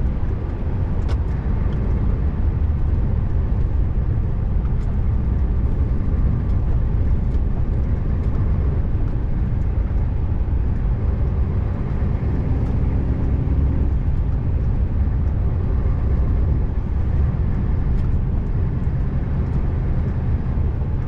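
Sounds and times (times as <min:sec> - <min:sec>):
road noise: 0:00.0 - 0:21.0
truck diesel engine rumbling: 0:00.0 - 0:21.0.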